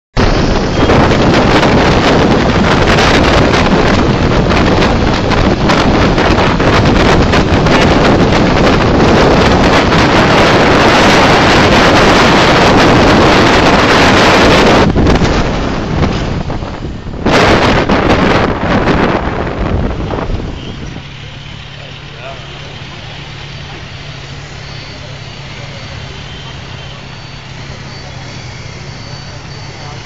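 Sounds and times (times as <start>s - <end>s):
heavy wind on microphone: 0.1s - 30.0s.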